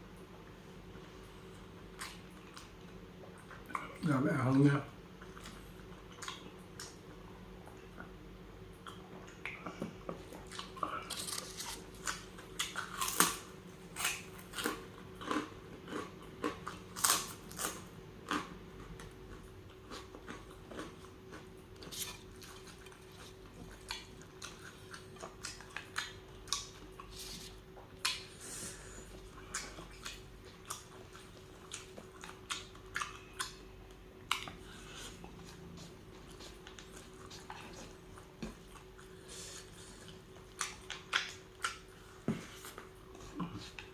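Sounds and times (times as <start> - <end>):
faint steady hum: 0.0 - 43.9
chewing with lip smacks: 1.4 - 4.1, 5.2 - 28.4, 29.1 - 43.9.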